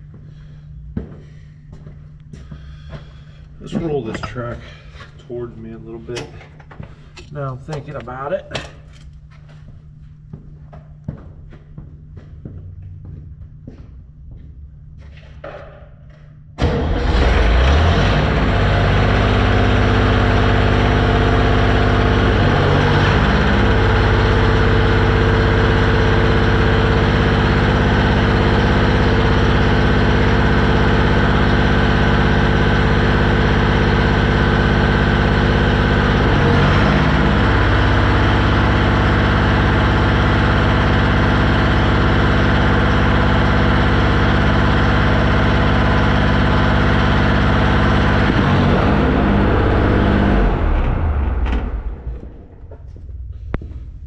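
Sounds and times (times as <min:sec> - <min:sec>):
paver engine running: 0:00.0 - 0:54.0.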